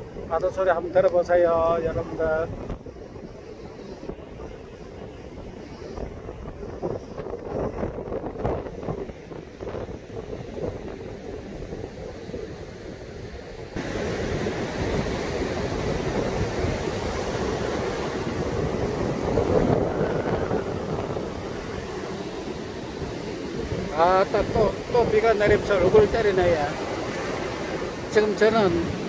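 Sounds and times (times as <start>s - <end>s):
heavy surf breaking on beach: 0.0s - 29.0s
wind buffeting microphone: 0.0s - 29.0s.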